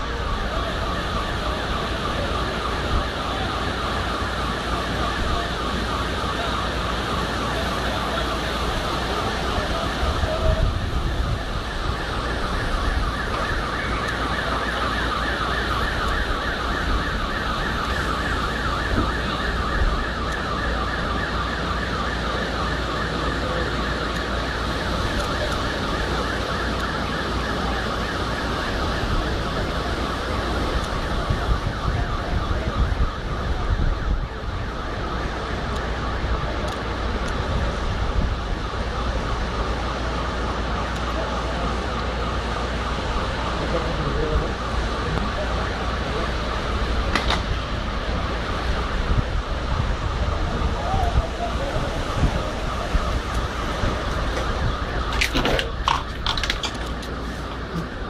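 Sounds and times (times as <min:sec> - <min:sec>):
electronic siren sweeping: 0:00.0 - 0:58.0.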